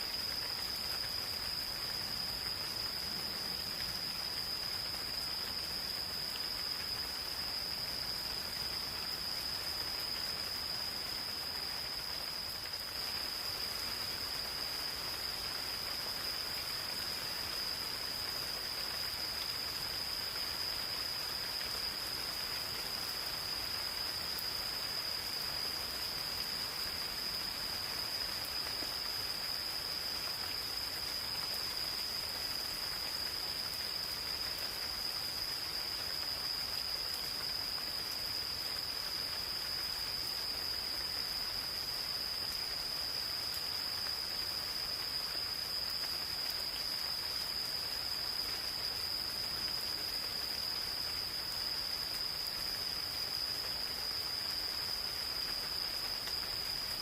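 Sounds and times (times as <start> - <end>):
gentle rain hiss: 0.0 - 57.0
insects trilling: 0.0 - 57.0.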